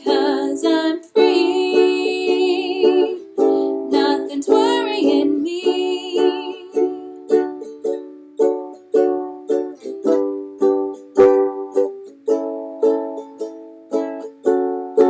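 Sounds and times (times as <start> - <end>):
ukulele strummed in chords: 0.0 - 15.0.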